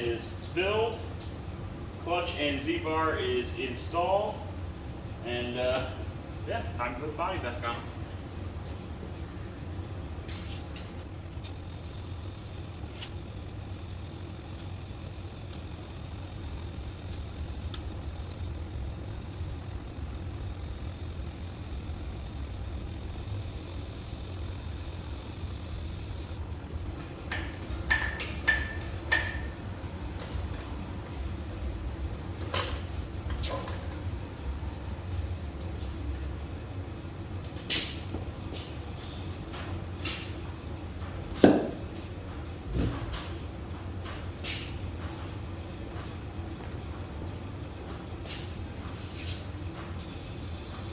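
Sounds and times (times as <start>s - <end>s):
low machine hum: 0.0s - 50.9s
faint high whine: 2.0s - 50.9s.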